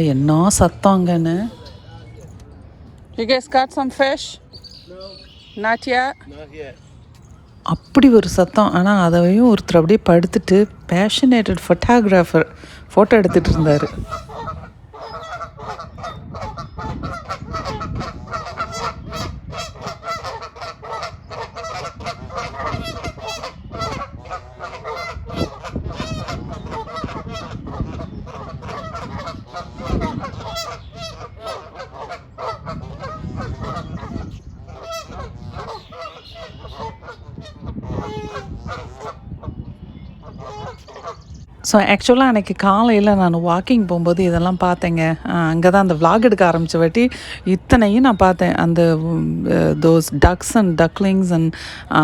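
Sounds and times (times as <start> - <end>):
geese honking: 0.0 - 2.3, 3.2 - 6.3, 7.6 - 39.6, 40.2 - 52.0.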